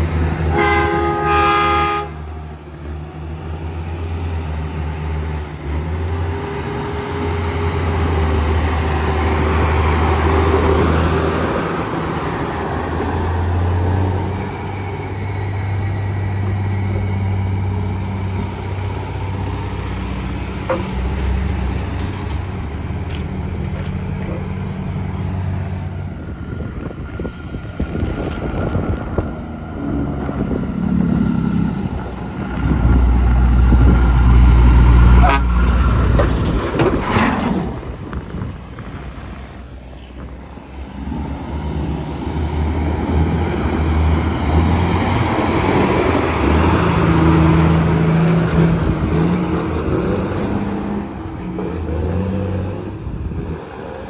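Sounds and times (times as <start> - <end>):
heavy trucks driving uphill: 0.0 - 54.0.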